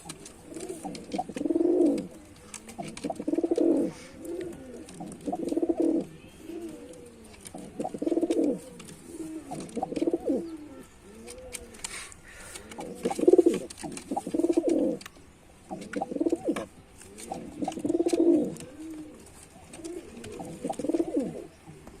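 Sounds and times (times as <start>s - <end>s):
pigeon cooing: 0.0s - 12.0s, 12.6s - 15.1s, 15.7s - 22.0s.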